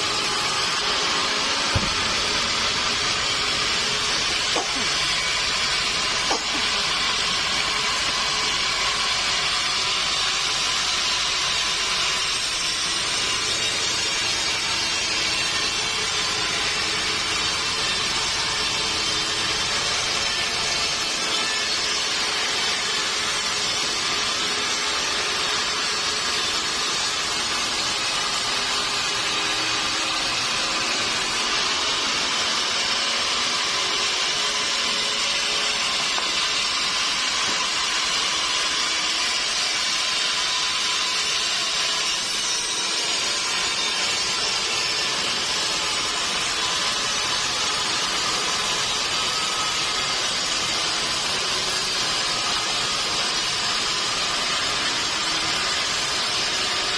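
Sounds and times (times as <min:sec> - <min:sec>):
saw cutting through log: 0:00.0 - 0:56.9.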